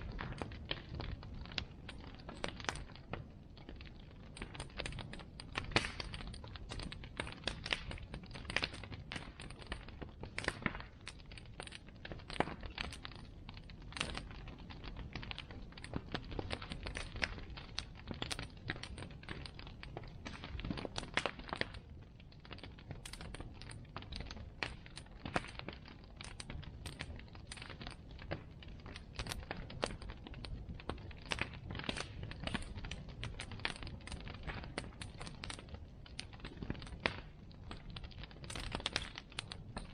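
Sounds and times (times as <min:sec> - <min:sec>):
bonfire crackling and popping: 0:00.0 - 0:39.9
low rumble of flames: 0:00.0 - 0:39.9.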